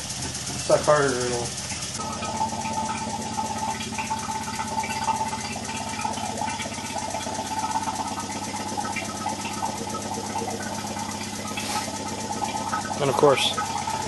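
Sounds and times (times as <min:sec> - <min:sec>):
vacuum pump running: 0:00.0 - 0:14.0.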